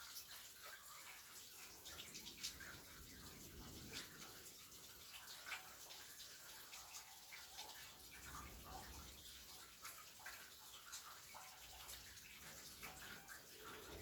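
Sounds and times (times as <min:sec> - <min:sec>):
raindrops tapping close by: 0:00.0 - 0:14.0
rain falling: 0:01.2 - 0:14.0.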